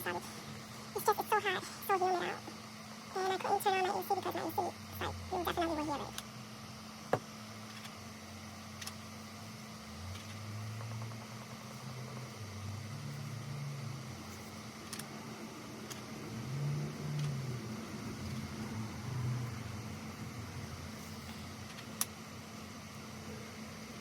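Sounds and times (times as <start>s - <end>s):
electric fan humming: 0.0s - 24.0s.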